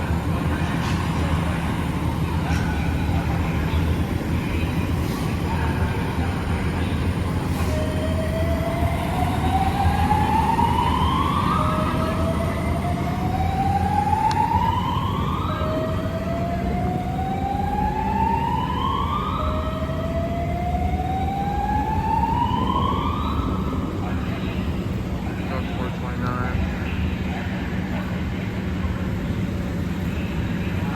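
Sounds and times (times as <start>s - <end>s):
fire siren wailing: 0.0s - 28.8s.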